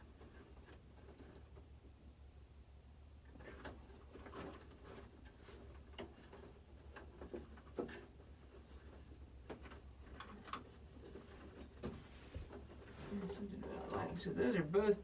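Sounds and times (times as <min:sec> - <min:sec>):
cables and plugs clicking and rustling: 0:00.0 - 0:02.2, 0:03.2 - 0:15.0.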